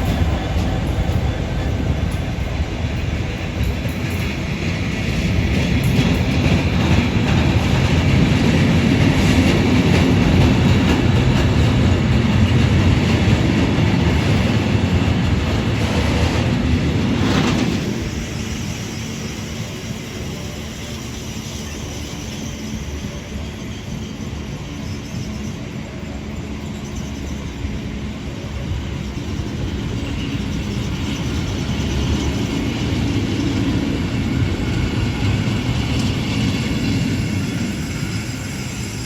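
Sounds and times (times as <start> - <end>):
freight train wheels rumbling on rails: 0.0 - 39.0.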